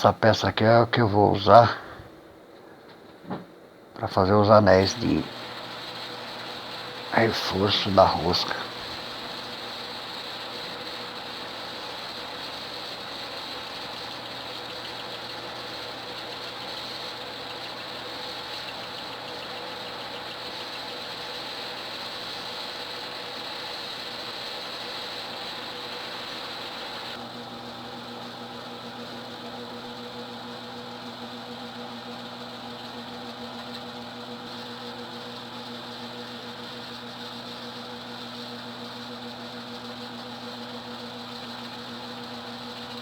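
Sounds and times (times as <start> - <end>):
lathe motor hum: 4.1 - 43.0.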